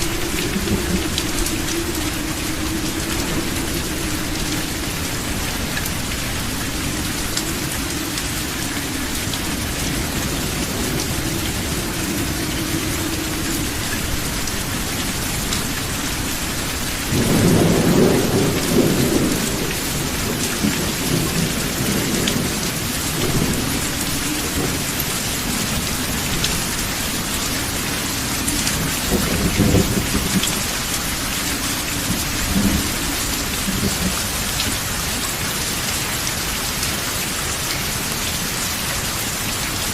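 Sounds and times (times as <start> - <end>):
thunder rumbling: 0.0 - 36.9
heavy rain: 0.0 - 39.9.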